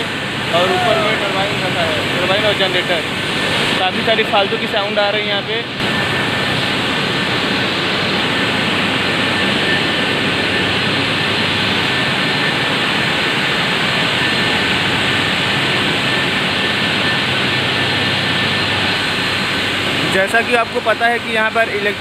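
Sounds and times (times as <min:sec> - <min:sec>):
high steady whine: 0:00.0 - 0:22.0
turbine rushing roar: 0:00.0 - 0:22.0.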